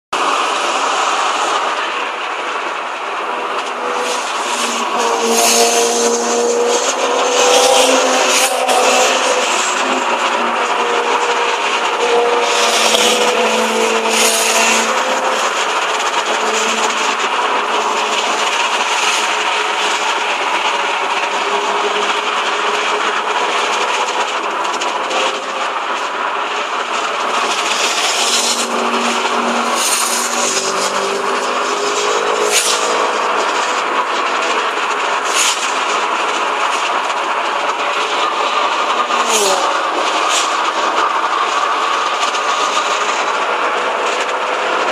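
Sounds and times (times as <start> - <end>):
car engine hum: 0.1 - 44.9
road noise in car cabin: 0.1 - 44.9.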